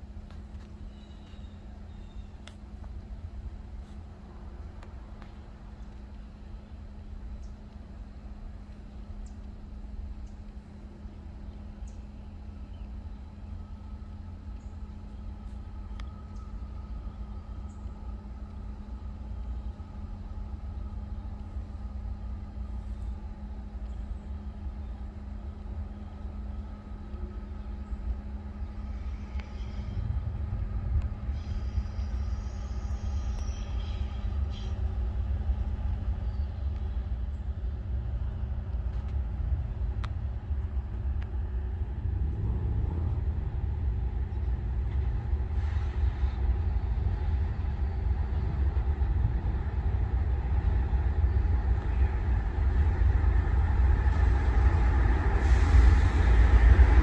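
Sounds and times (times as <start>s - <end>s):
diesel locomotives rumbling: 0.0s - 57.0s.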